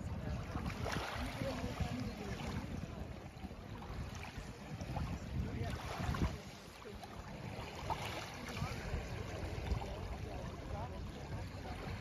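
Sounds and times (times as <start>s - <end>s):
waves lapping on pebble beach: 0.0s - 12.0s
wind buffeting microphone: 0.0s - 12.0s.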